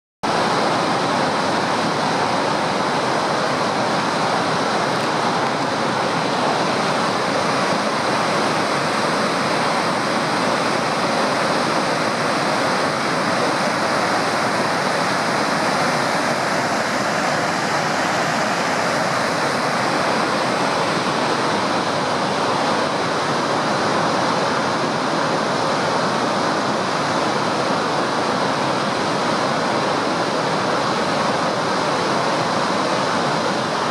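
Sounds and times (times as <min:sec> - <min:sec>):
water rushing over dam spillway: 0:00.2 - 0:33.9.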